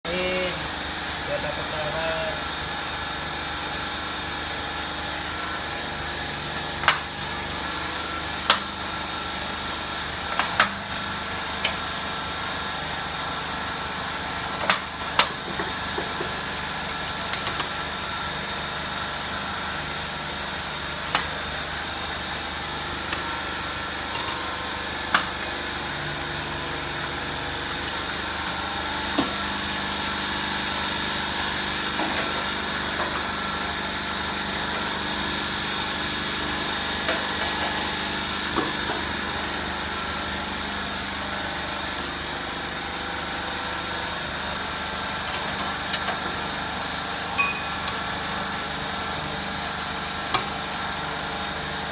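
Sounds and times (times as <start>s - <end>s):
machine motor hum and whine: 0.1s - 51.9s.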